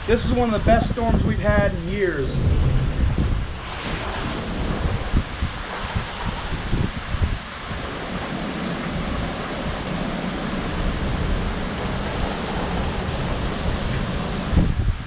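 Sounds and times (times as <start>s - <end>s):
wind buffeting microphone: 0.0s - 15.0s
wind gusting with rain: 0.0s - 15.0s.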